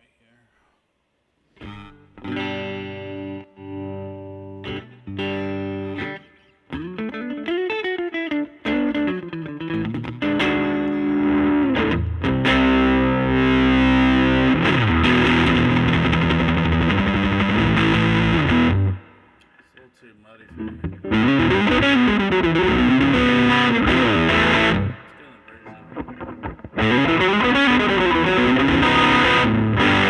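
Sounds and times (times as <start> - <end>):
distorted electric guitar: 1.6 - 19.4, 20.5 - 30.0.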